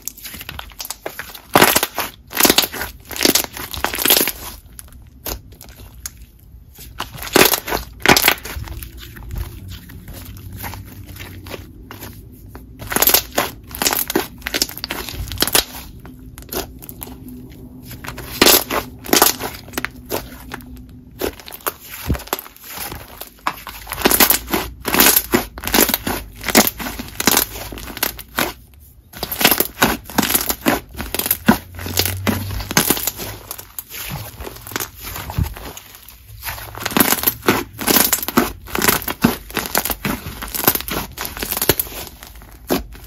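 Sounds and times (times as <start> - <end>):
hands squishing slime: 0.0 - 43.0
slime crackling and popping: 0.0 - 43.0.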